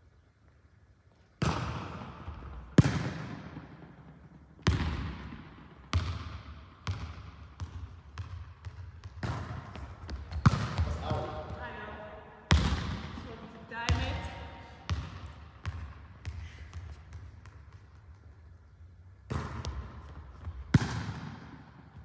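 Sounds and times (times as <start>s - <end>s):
volleyball smacks echoing in gym: 1.4s - 18.4s, 19.2s - 22.0s.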